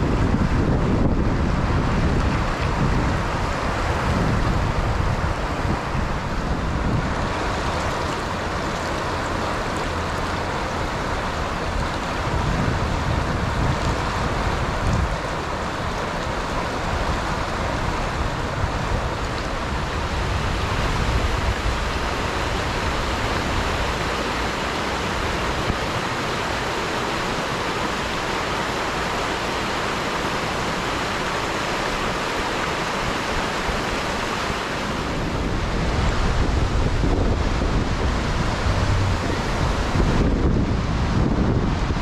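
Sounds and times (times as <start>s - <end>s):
wind buffeting microphone: 0.0s - 28.1s, 33.1s - 42.0s
river water rushing: 0.0s - 42.0s.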